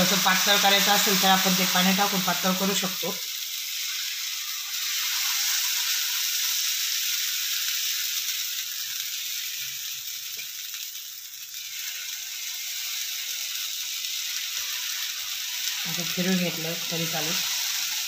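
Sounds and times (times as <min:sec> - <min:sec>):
batter sizzling on griddle: 0:00.0 - 0:18.0.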